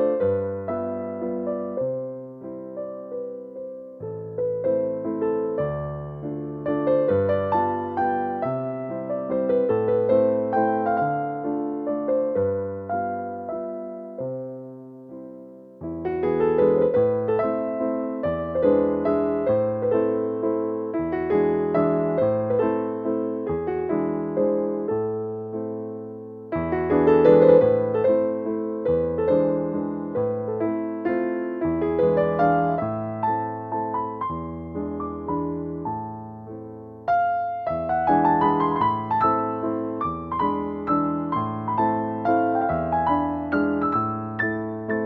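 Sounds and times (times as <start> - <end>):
electric piano music: 0.0 - 45.0.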